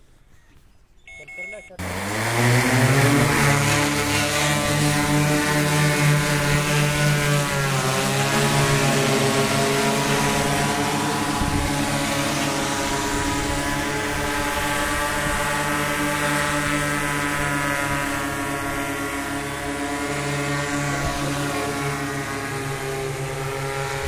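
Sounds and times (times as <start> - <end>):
drone propellers humming: 1.7 - 24.0.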